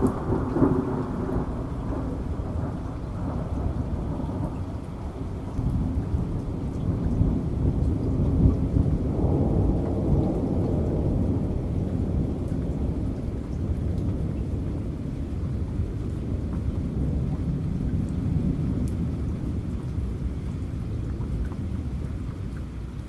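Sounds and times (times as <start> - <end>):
heavy rain: 0.0 - 23.0
low roll of thunder: 0.0 - 23.0.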